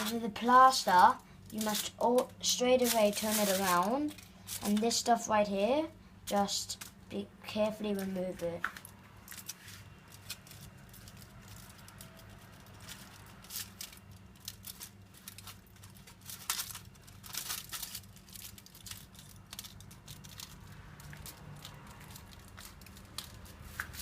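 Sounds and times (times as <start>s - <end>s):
material crinkling and rustling: 0.0s - 5.2s, 7.6s - 24.0s
low steady hum: 0.0s - 24.0s.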